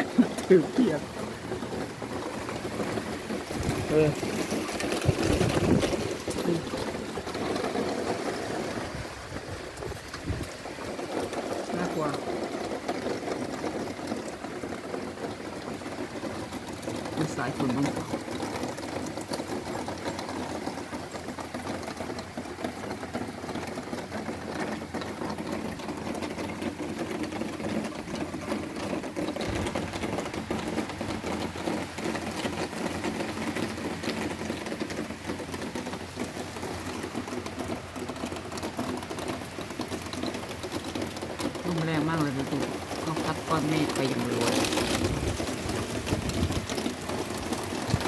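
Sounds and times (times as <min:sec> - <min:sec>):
heavy rain patter: 0:00.0 - 0:48.0.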